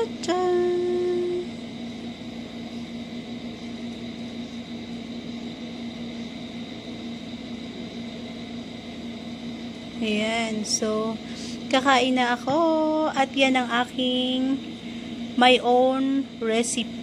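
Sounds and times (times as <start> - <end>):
steady low hum with hiss: 0.0 - 17.0.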